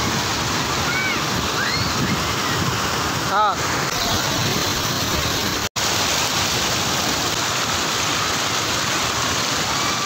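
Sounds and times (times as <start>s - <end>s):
water rushing over weir: 0.0s - 10.0s.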